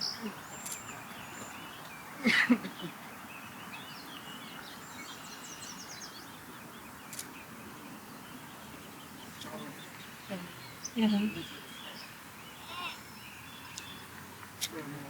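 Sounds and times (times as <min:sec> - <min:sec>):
birds chirping: 0:00.0 - 0:15.0
outdoor background hiss: 0:00.0 - 0:15.0.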